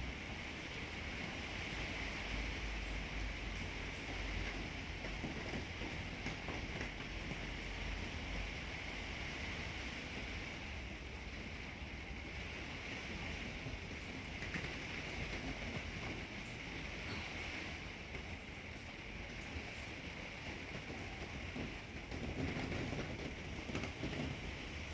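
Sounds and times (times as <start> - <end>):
rain hissing: 0.0 - 24.9
wind rumbling: 0.0 - 24.9.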